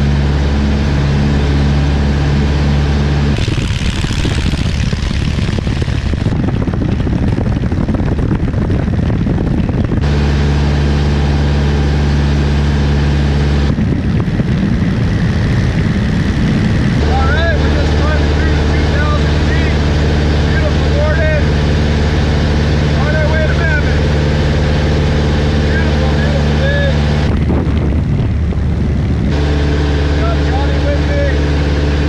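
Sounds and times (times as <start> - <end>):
light airplane engine droning: 0.0 - 32.0
wind rushing over microphone: 0.0 - 32.0.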